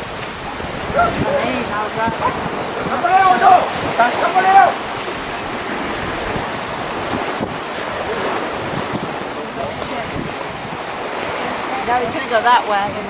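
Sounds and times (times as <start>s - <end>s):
gusty wind buffeting microphone: 0.0s - 13.0s
surf washing on beach: 0.0s - 13.0s.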